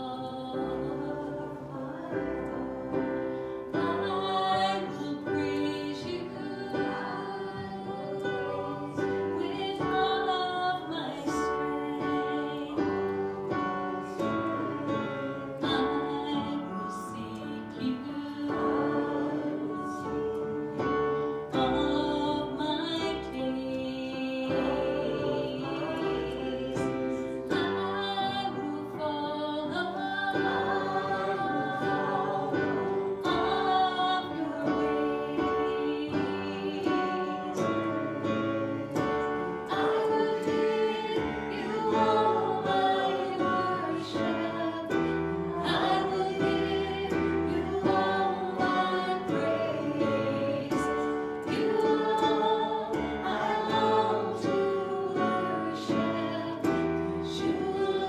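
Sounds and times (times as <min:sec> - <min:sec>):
group singing a hymn: 0:00.0 - 0:58.0.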